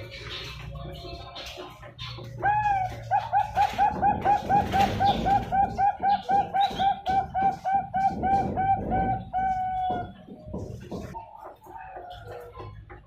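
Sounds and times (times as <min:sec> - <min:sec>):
dove cooing: 0:00.0 - 0:12.8.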